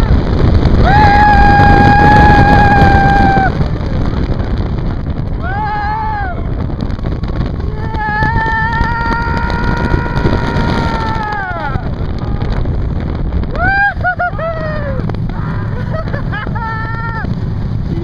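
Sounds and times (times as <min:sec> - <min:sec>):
riders screaming: 0:00.0 - 0:04.2, 0:05.3 - 0:12.6, 0:13.4 - 0:17.4
roller coaster rumbling on track: 0:00.0 - 0:18.0
wind on microphone: 0:00.0 - 0:18.0.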